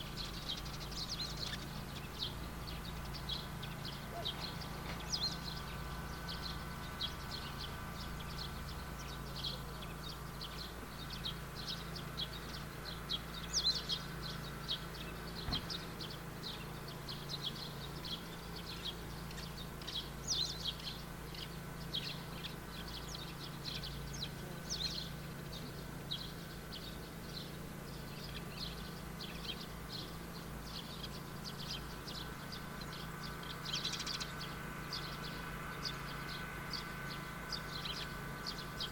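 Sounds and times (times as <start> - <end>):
small birds chirping: 0.0 - 38.9
steady low hum: 0.0 - 38.9.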